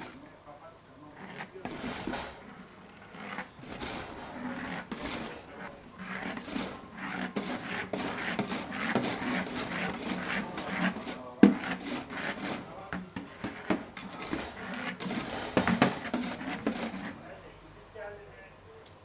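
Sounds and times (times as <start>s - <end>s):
scraping and knocking on wood: 0.0s - 0.3s, 1.0s - 17.4s.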